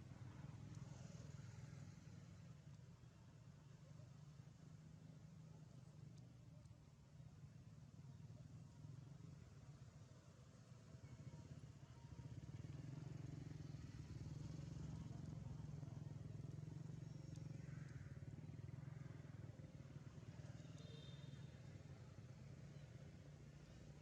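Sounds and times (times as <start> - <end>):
faint distant engine hum: 0.0 - 24.0.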